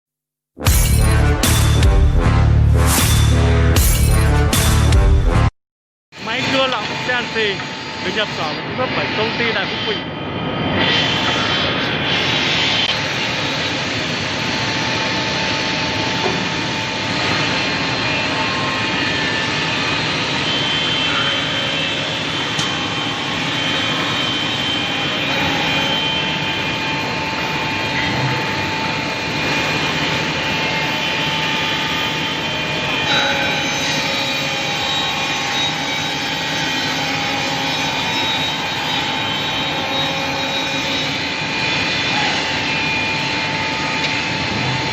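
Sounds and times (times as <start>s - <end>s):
scroll saw running with whine: 6.2s - 44.9s.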